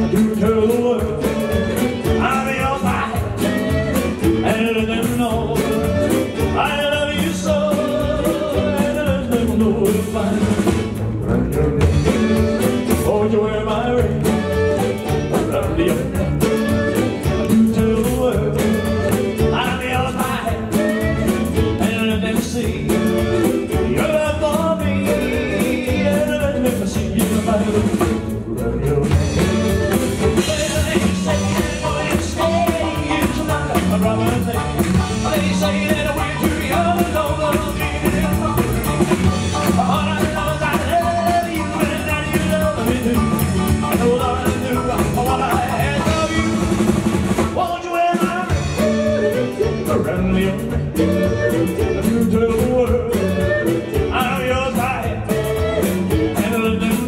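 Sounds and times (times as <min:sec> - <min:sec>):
acoustic guitar: 0:00.0 - 0:57.0
live band playing: 0:00.0 - 0:57.0
man singing: 0:00.0 - 0:57.0.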